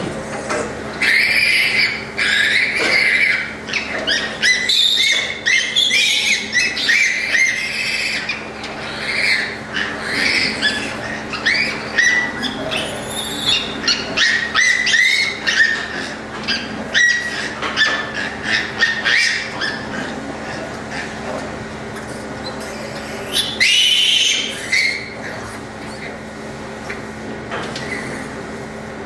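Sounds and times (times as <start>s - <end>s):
steady low hum: 0.0s - 29.0s
piglets squealing: 1.0s - 21.2s, 22.0s - 26.2s.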